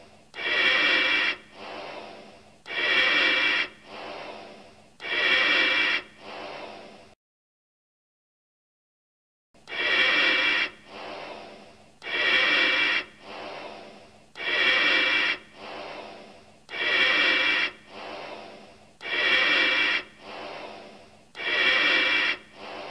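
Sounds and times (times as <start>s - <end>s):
breathing through gas mask: 0.0s - 7.2s, 9.6s - 22.9s.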